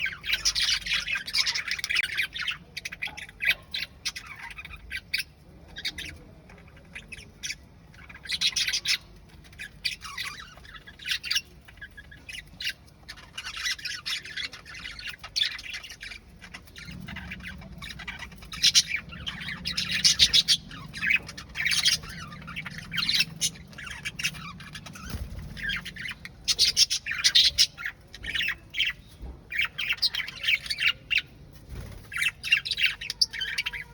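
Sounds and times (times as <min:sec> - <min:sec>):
parrot squawking and chirping: 0:00.0 - 0:31.4, 0:32.0 - 0:33.9.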